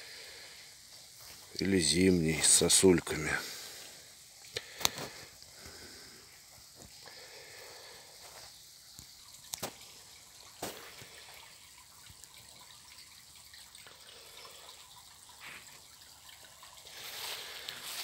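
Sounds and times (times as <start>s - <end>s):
stream trickling over stones: 0.0s - 18.0s.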